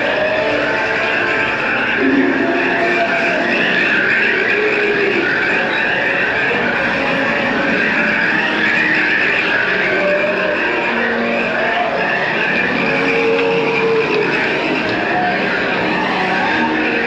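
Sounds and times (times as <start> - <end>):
rumble of train cars: 0.0 - 17.0.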